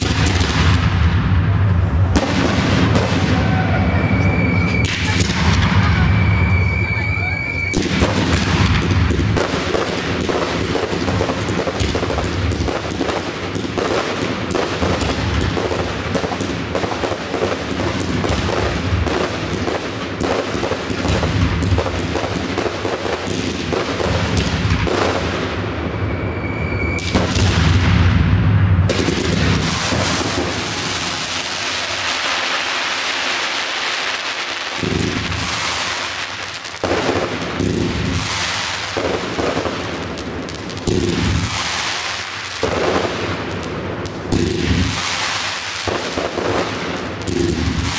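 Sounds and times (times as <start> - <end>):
fireworks crackling hiss: 0.0 - 28.1, 28.8 - 47.9
fireworks cracks and bangs: 0.0 - 47.9
heavy fireworks booms: 0.0 - 47.9.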